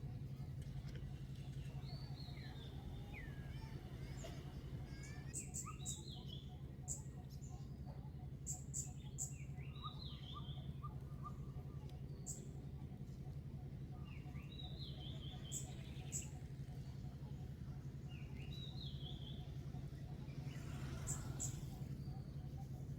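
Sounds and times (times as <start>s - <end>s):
birds chirping: 0.0s - 22.9s
steady low hum: 0.0s - 22.9s.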